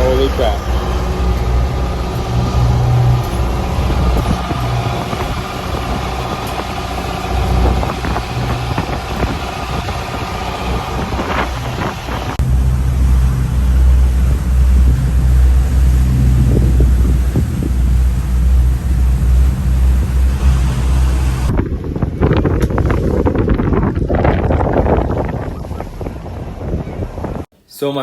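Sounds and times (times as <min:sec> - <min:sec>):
boat engines droning: 0:00.0 - 0:27.5.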